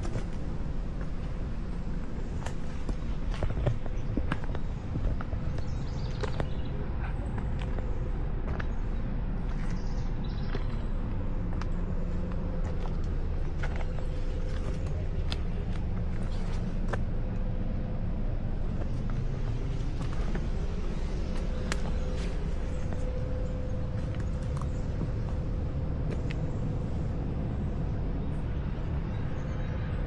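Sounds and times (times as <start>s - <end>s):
footsteps on a trail: 0.0s - 27.1s
steady low rumble: 0.0s - 30.0s.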